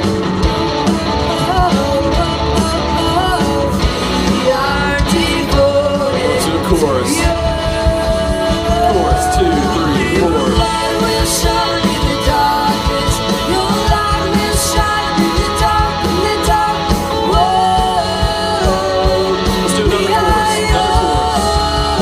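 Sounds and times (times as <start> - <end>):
drum kit beat: 0.0 - 22.0
rock band playing: 0.0 - 22.0
person singing: 0.5 - 22.0.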